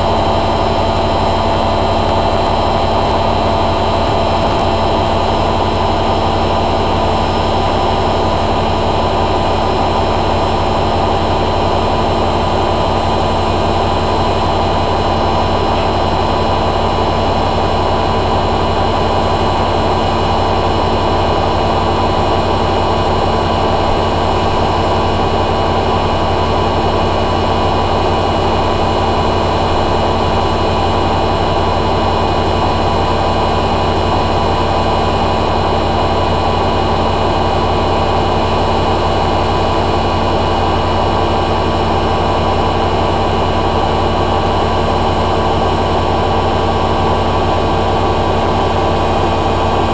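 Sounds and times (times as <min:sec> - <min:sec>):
washing machine whine: 0:00.0 - 0:49.9.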